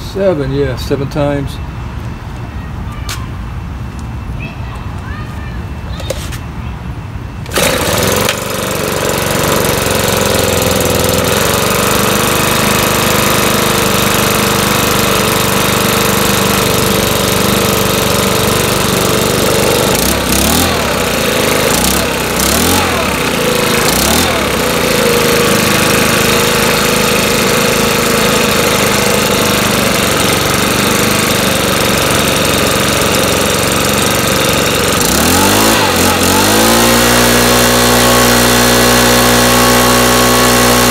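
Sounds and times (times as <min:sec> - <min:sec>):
leaf blower engine idling: 0:07.5 - 0:40.9.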